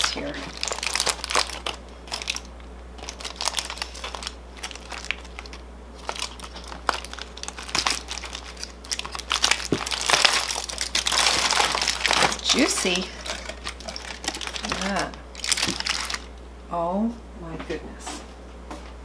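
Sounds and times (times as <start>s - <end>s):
aluminium foil crinkling: 0.0s - 16.4s.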